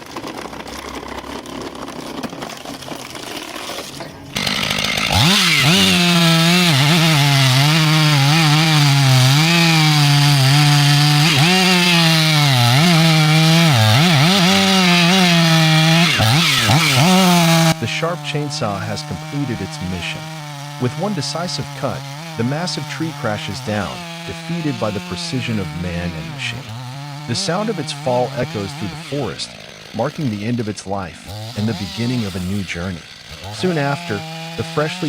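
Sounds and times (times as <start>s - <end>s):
chainsaw cutting through tree: 0.0s - 35.0s.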